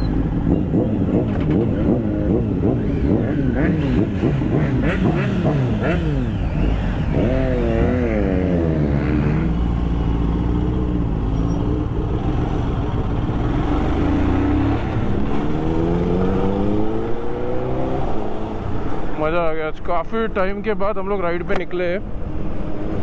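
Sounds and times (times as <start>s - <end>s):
motorcycle engine: 0.0s - 19.3s.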